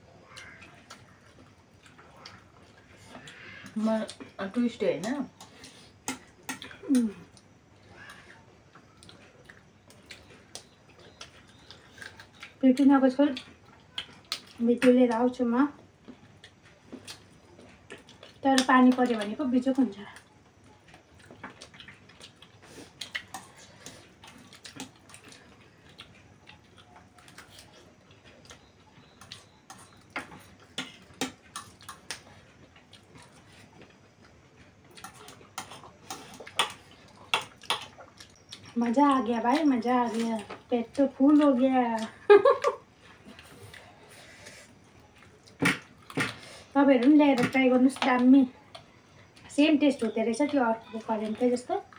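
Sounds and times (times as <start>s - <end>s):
faint chewing: 0.1s - 51.9s.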